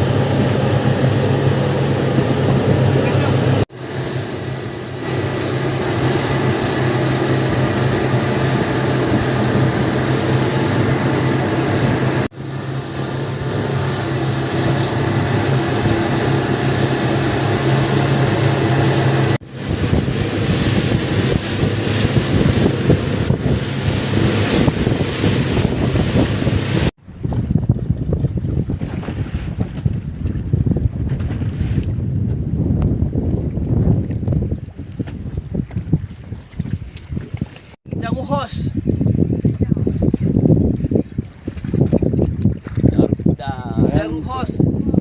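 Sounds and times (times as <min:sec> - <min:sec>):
boat engine running: 0:00.0 - 0:45.0
water rushing past hull: 0:00.0 - 0:45.0
wind buffeting microphone: 0:00.0 - 0:45.0.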